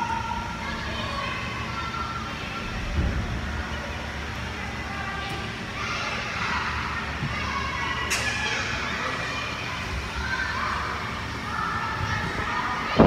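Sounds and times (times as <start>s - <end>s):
children calling and chattering: 0.0s - 13.0s.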